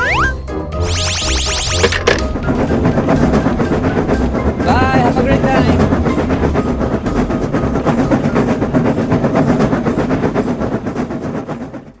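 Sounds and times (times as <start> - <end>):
train rumbling: 1.6 - 12.0
wheels clacking over rail joints: 2.1 - 12.0.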